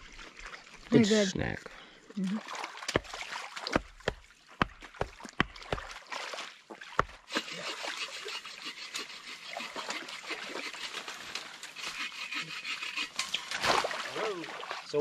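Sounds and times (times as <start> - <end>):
creek trickling: 0.0 - 15.0.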